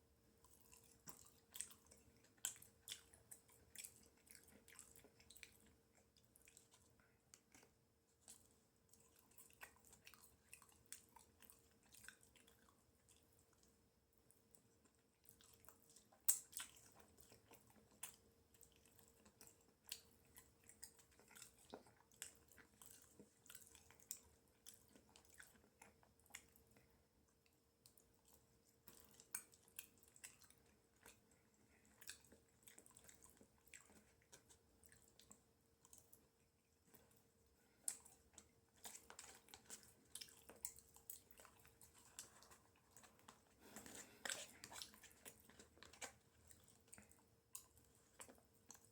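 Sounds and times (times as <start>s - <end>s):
person chewing fries: 0.3s - 13.7s, 14.3s - 48.9s.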